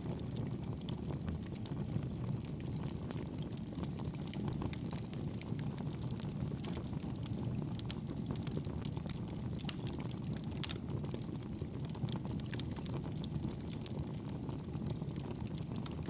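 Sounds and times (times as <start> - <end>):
fireplace wood crackling and popping: 0.0 - 16.0
low rumble of flames: 0.0 - 16.0.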